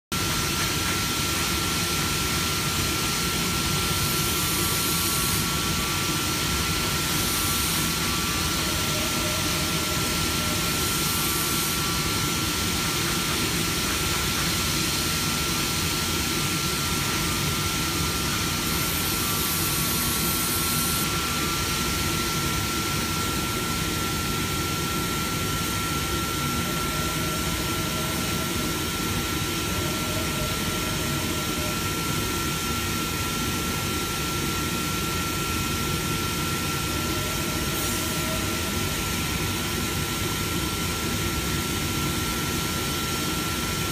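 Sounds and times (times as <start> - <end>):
machine drone with high whine: 0.2 - 43.9.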